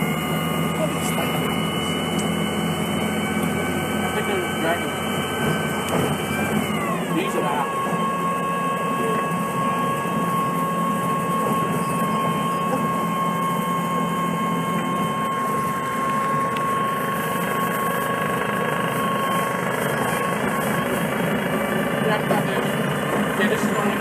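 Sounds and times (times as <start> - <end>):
bus engine idling: 0.0 - 24.0
thin high whine: 0.0 - 24.0.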